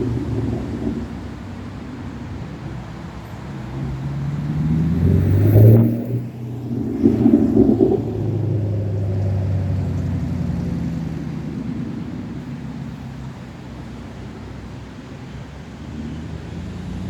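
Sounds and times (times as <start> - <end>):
car exhaust revving: 0.0 - 14.1.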